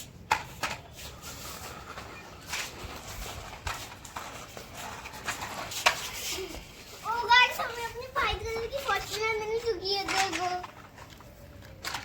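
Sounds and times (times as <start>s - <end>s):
toy vehicles knocking and clicking: 0.0s - 6.4s, 7.1s - 12.0s
rustling of toys being rummaged: 0.3s - 12.0s.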